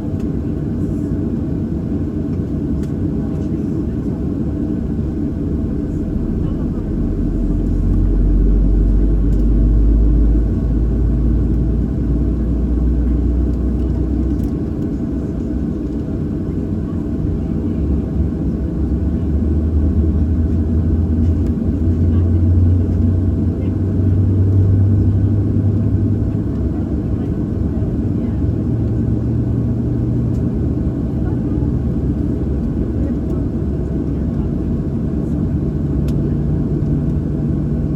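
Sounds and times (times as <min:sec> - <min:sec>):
aircraft cabin rumble: 0:00.0 - 0:37.9
jet engine hum: 0:00.0 - 0:37.9.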